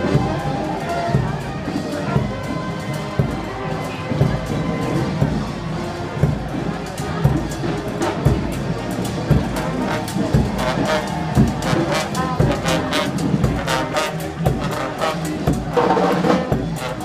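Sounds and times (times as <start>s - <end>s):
brass band playing: 0.0s - 17.0s
steady drum beat: 0.0s - 17.0s.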